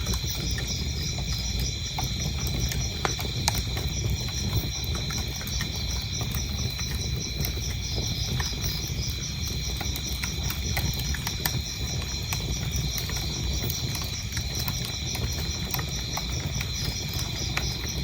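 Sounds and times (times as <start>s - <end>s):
crickets chirping: 0.0s - 18.0s
wood fire crackling: 0.0s - 18.0s.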